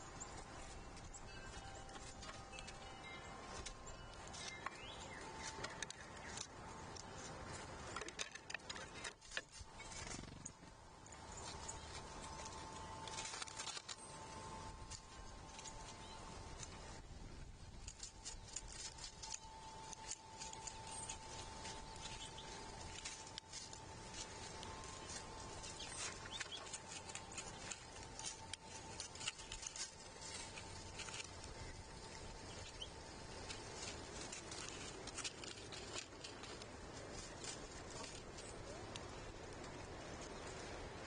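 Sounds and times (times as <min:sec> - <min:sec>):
small animals pecking at seed: 0:00.0 - 0:41.0.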